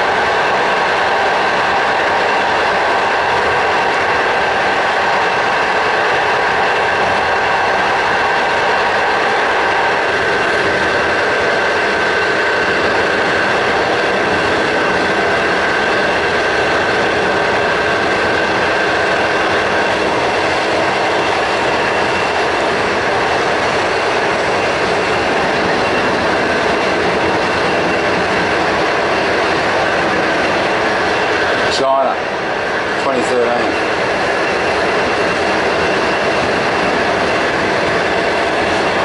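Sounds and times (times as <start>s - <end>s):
train rumble and hiss: 0.0s - 39.0s.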